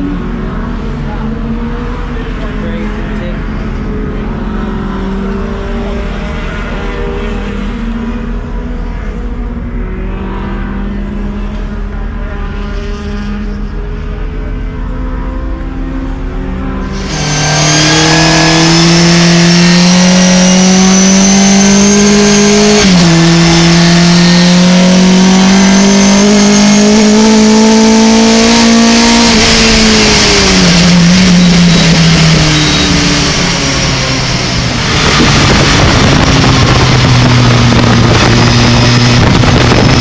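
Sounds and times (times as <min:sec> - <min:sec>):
truck engine at full throttle: 0:00.0 - 0:40.0.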